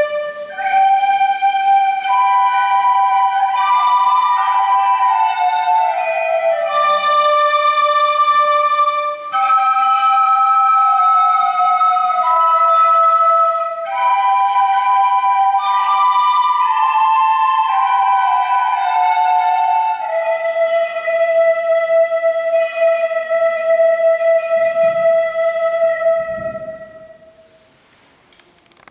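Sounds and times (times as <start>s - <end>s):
folk song melody: 0.0s - 28.5s.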